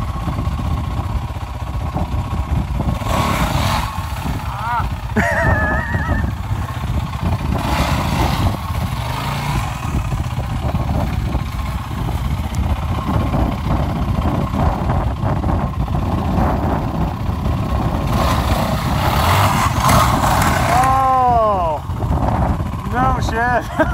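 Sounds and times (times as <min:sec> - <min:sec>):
dirt bike engine at low revs: 0:00.0 - 0:23.9.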